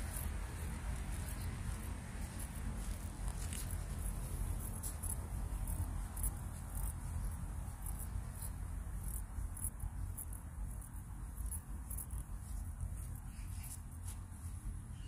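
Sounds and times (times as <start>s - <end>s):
insects trilling: 0.0s - 12.4s.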